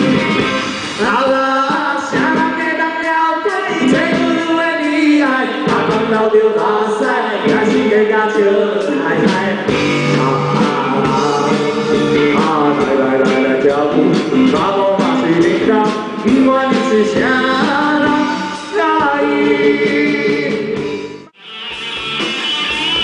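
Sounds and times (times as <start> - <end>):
live rock band: 0.0 - 23.0
man singing: 1.0 - 21.3.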